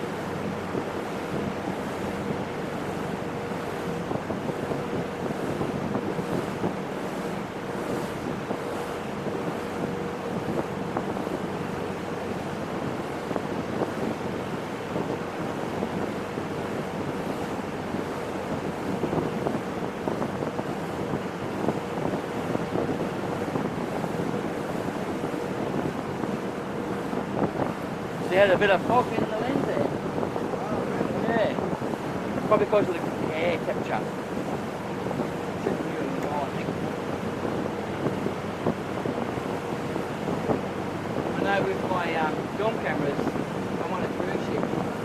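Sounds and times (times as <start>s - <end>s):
boat engine hum: 0.0s - 45.0s
rush of wind and water: 0.0s - 45.0s
wind buffeting microphone: 0.0s - 45.0s.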